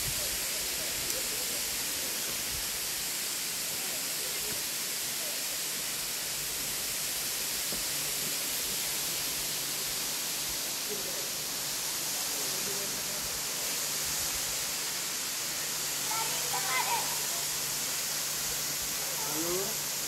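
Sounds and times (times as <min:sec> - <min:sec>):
waterfall splashing: 0:00.0 - 0:20.0.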